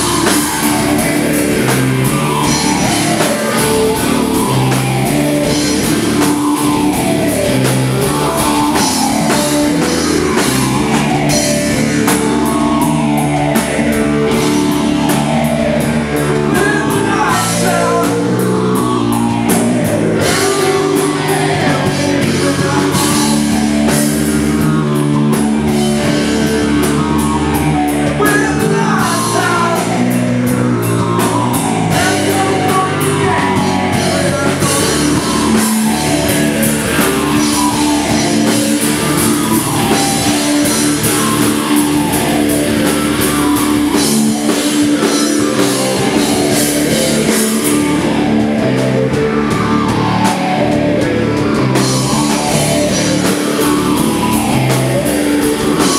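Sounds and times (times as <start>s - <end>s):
distorted electric guitar: 0.0s - 55.9s
drum kit: 0.0s - 55.9s
electric bass: 0.0s - 55.9s.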